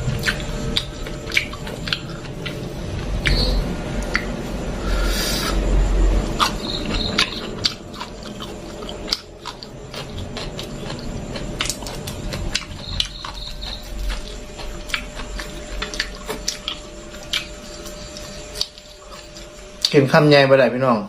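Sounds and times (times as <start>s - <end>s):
person chewing crispy chicken: 0.0s - 4.4s, 6.2s - 20.0s.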